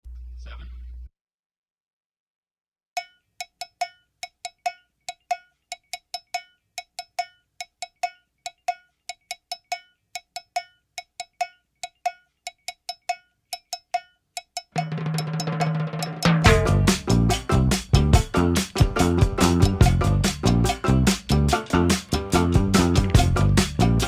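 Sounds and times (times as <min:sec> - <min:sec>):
high percussive note struck rhythmically: 0:03.0 - 0:24.0.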